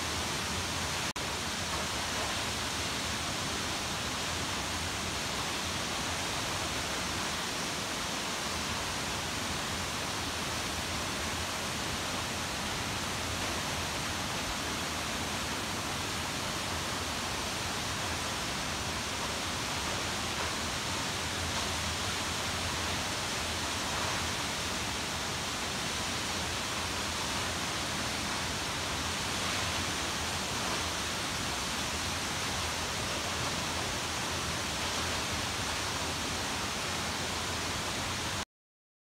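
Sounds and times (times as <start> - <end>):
waterfall rushing: 0.0 - 38.4.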